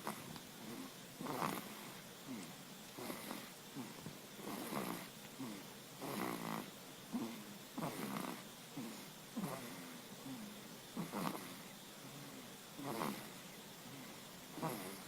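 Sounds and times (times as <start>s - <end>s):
baby snoring: 0.0s - 15.0s.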